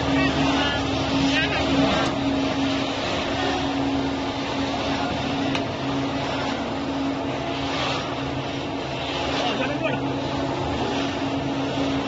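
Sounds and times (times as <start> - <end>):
plastic film squeezing machine droning: 0.0 - 12.0.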